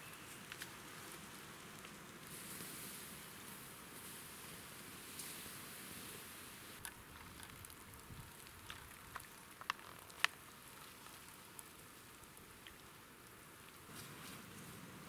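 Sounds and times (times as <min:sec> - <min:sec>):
embers hissing and crackling: 0:00.0 - 0:15.0.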